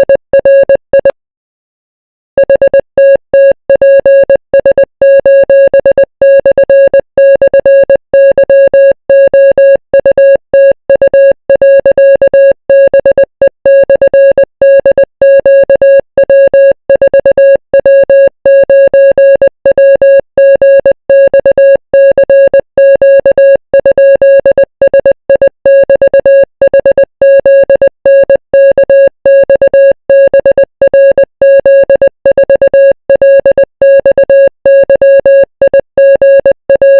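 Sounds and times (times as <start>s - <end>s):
morse code beeps: 0.0s - 1.2s, 2.4s - 36.9s.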